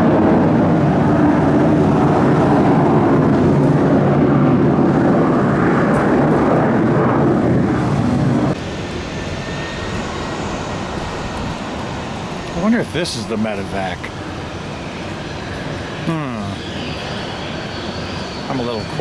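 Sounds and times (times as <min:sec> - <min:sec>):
airplane engines droning: 0:00.0 - 0:19.0.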